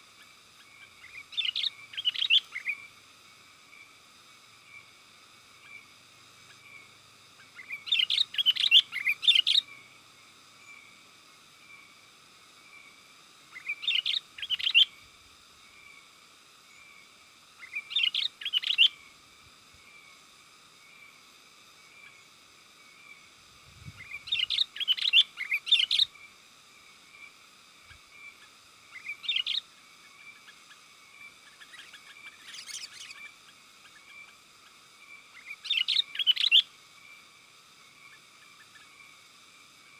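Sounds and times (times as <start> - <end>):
faint high hiss: 0.0 - 39.9.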